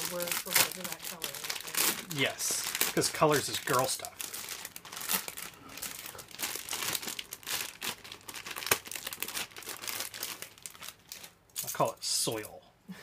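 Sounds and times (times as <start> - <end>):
plastic bags crinkling: 0.0 - 11.8.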